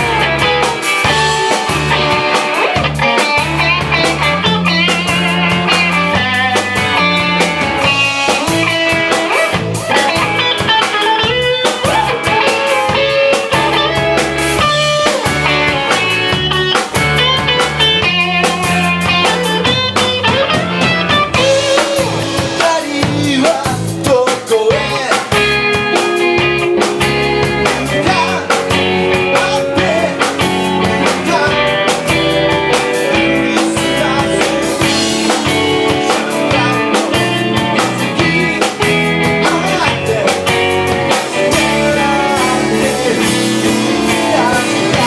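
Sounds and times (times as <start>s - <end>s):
drums: 0.0s - 45.0s
guitar: 0.0s - 45.0s
low bass line: 0.0s - 45.0s.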